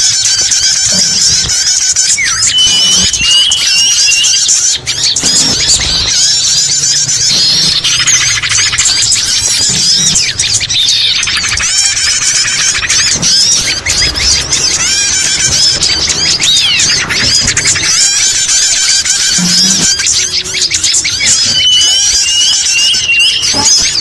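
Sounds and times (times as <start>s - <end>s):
fast buzzy bird trill: 0.0s - 24.0s
small songbirds chirping: 0.0s - 24.0s.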